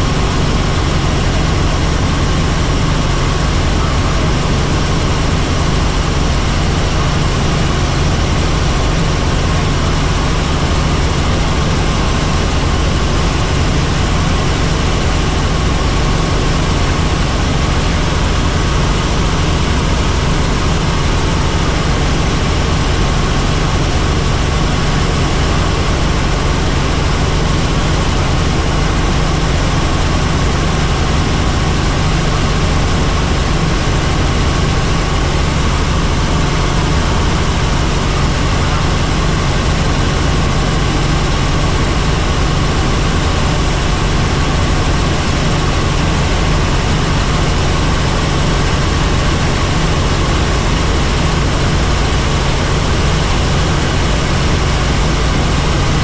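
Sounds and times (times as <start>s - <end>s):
helicopter in flight: 0.0s - 56.0s.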